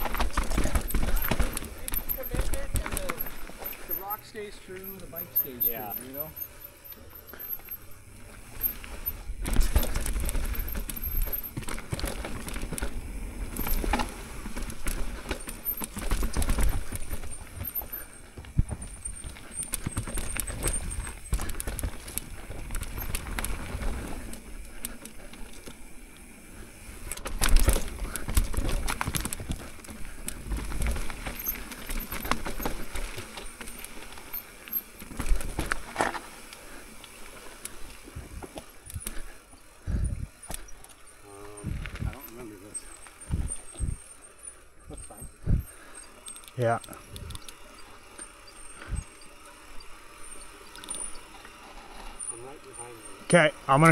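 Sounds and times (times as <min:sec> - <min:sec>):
bike clicks and knocks: 0:00.0 - 0:53.9
bike tyres rushing over trail: 0:00.0 - 0:53.9.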